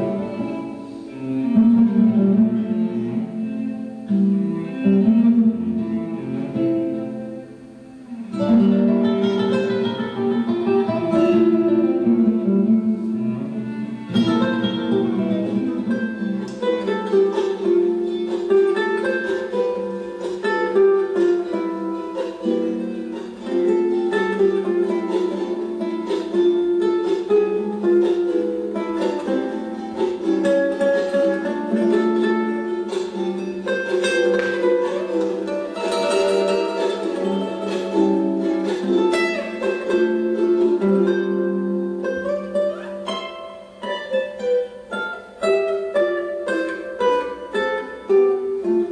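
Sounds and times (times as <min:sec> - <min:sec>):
plucked string instrument music: 0:00.0 - 0:48.9.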